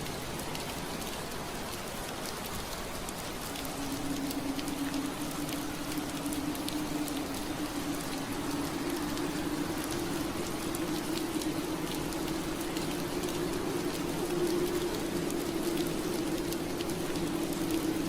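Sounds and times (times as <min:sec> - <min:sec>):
rain pattering on window glass: 0:00.0 - 0:18.0.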